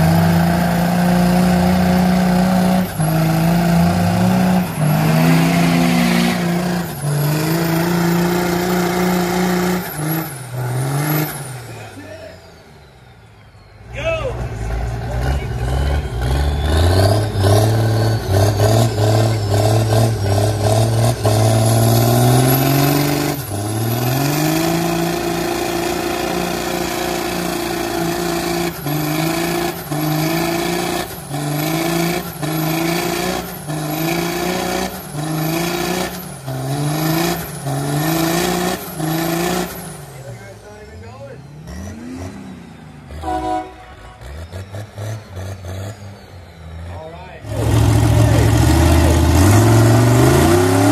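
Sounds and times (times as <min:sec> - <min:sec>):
tires spinning: 0:00.0 - 0:50.9
truck engine revving: 0:00.0 - 0:50.9.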